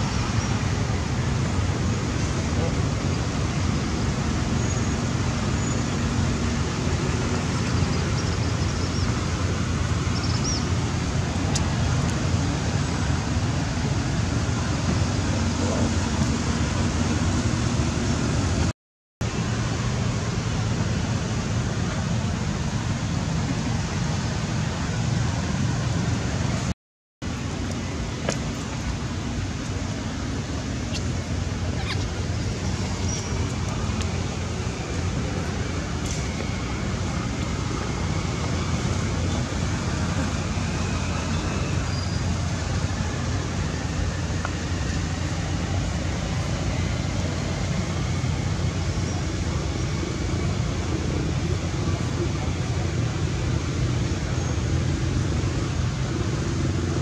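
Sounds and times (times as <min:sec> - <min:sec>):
low rumbling outdoor noise: 0:00.0 - 0:57.0.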